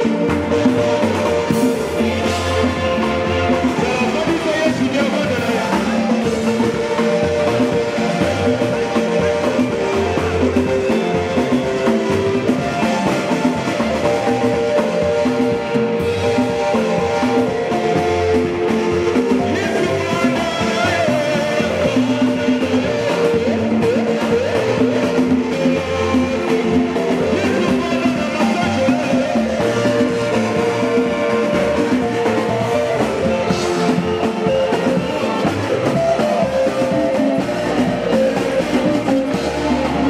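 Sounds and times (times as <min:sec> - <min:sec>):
drum kit: 0:00.0 - 0:40.0
electric guitar: 0:00.0 - 0:40.0
upbeat band music: 0:00.0 - 0:40.0.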